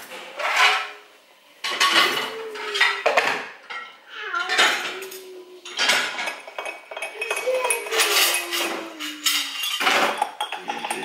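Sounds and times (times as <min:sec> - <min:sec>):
crockery and cutlery clinking: 0:00.0 - 0:11.0.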